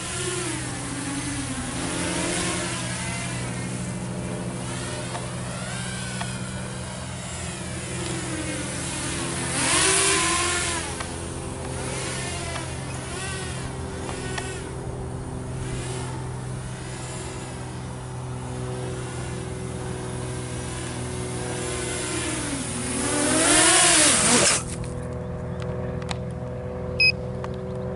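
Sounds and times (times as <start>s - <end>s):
quadcopter motors whining: 0.0s - 27.9s.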